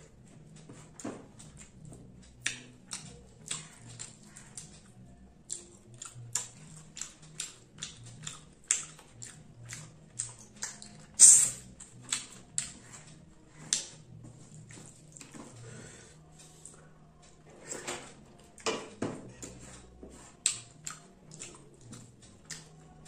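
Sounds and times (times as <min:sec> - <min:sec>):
wet chewing and lip smacks: 0:00.1 - 0:15.4, 0:19.4 - 0:23.0.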